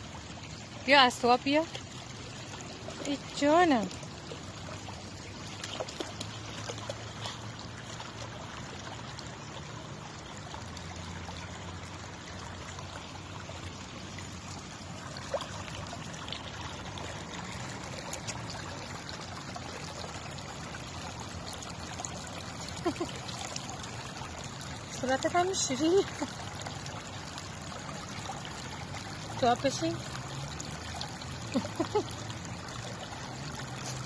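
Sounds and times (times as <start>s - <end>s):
stream trickling over stones: 0.0s - 34.0s.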